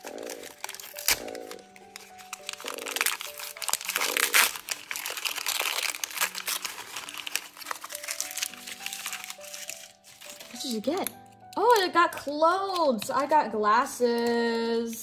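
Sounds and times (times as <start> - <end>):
light background music: 0.0 - 15.0
plastic packaging crinkling and tearing: 0.0 - 15.0.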